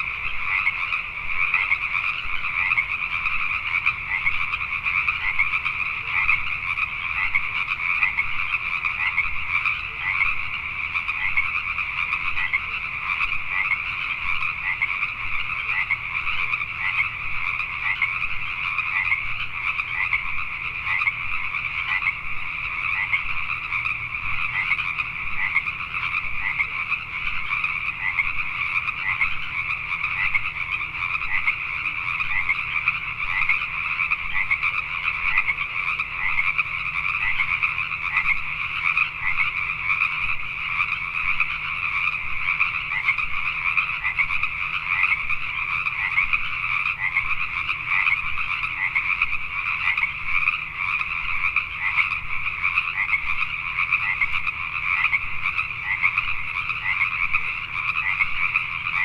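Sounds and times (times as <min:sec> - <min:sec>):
chorus of frogs croaking: 0:00.0 - 0:59.0.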